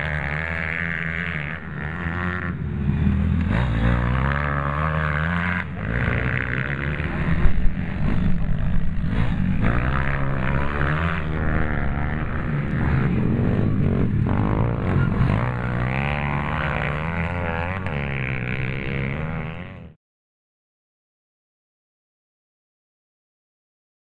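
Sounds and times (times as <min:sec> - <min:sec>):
pit bike engines revving: 0:00.0 - 0:20.0.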